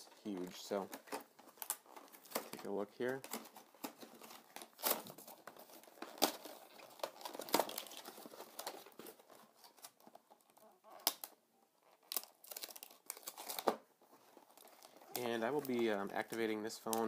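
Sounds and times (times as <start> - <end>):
plastic wrapping crinkling and tearing: 0.0 - 17.0.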